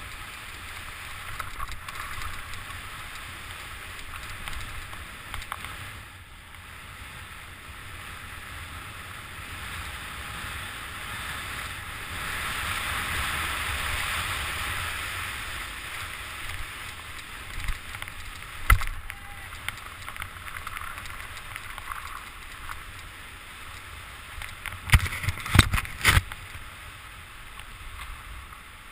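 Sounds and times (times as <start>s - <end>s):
skis hissing through powder snow: 0.0s - 24.4s
wind rumble on microphone: 0.0s - 28.9s.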